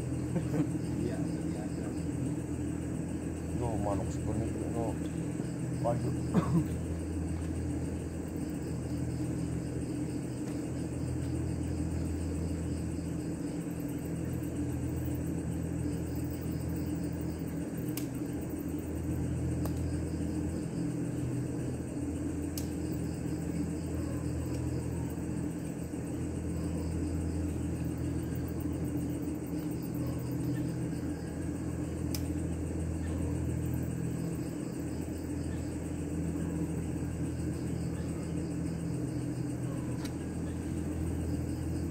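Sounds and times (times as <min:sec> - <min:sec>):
crickets chirping: 0:00.0 - 0:41.9
low motor hum: 0:00.0 - 0:41.9.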